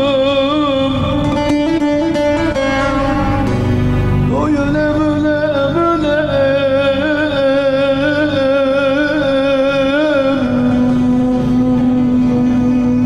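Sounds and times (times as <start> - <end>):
instrumental accompaniment: 0.0 - 13.0
man singing ornamented melody: 0.0 - 13.0.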